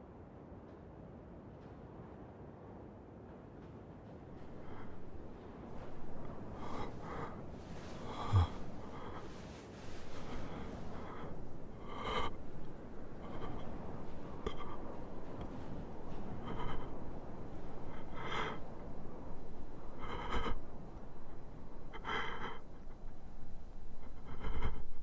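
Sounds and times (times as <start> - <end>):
man breathing heavily and gasping: 4.4 - 25.0.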